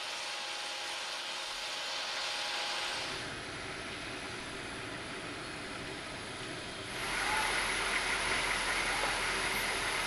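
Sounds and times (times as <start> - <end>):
large aircraft engine: 0.0 - 10.0
vehicle engines: 0.0 - 10.0.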